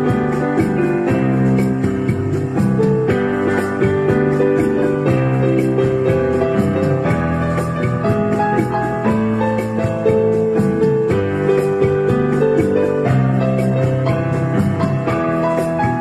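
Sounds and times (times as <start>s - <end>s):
piano melody with held chords: 0.0s - 16.0s.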